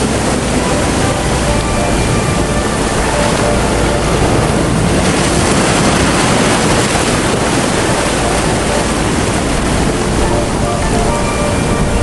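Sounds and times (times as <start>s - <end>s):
heavy rain on a street: 0.0s - 12.0s.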